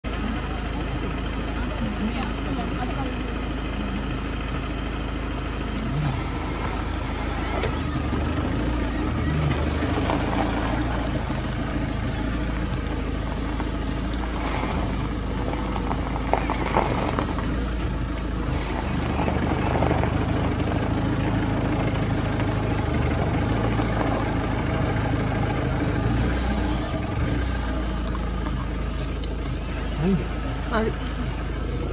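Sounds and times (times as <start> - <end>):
vehicle engine idling: 0.0 - 31.9.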